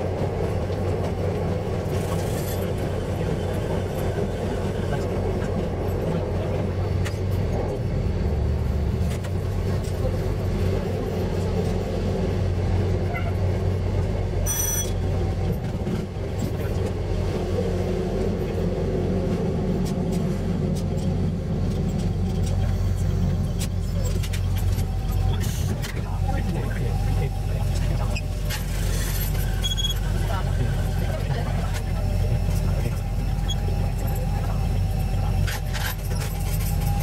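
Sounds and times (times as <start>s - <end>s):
diesel railcar rumble: 0.0s - 37.0s.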